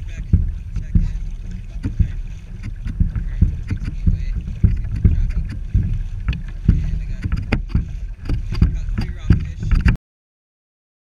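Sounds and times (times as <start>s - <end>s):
irregular knocks: 0.0s - 10.0s
muffled low rumble: 0.0s - 10.0s.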